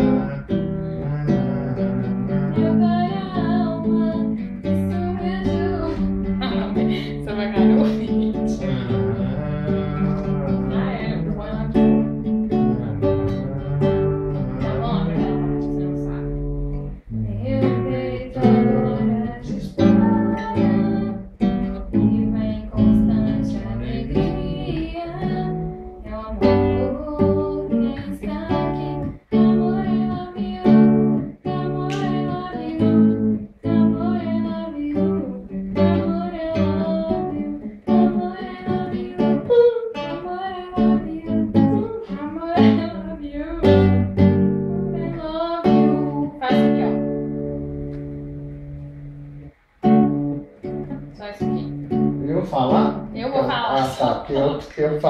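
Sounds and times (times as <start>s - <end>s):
person singing: 0.0s - 47.8s
acoustic guitar chords: 0.0s - 55.0s.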